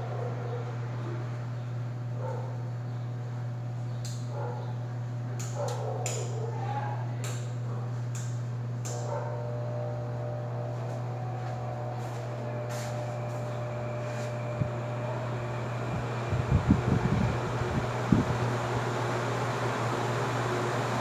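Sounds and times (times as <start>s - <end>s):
electric fan motor hum: 0.0s - 21.0s.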